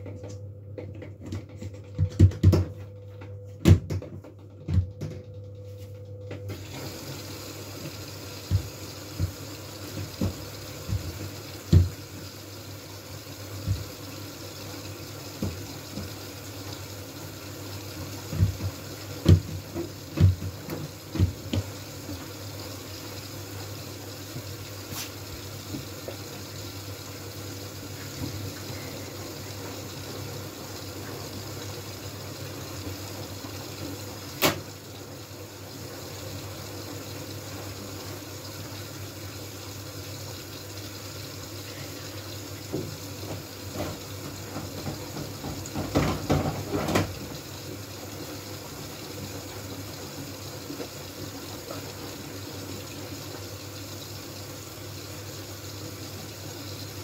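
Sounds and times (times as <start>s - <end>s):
washing machine water running: 0.0s - 57.0s.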